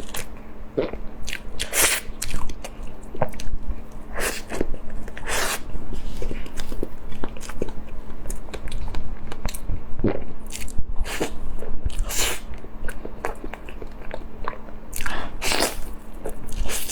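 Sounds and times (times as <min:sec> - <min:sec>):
food being bitten and chewed: 0:00.0 - 0:16.9.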